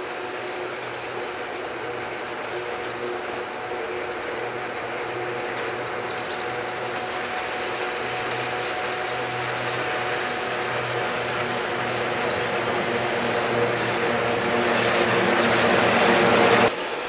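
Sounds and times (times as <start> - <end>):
electric locomotive humming: 0.0 - 17.0
train wheels rumbling on rails: 0.0 - 17.0.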